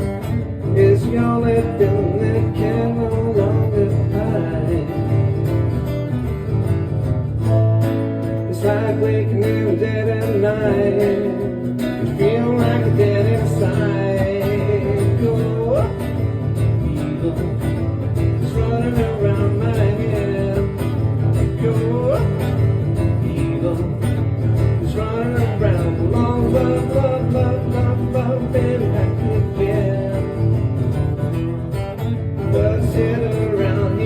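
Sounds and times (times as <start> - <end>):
acoustic guitar accompaniment: 0.0 - 34.0.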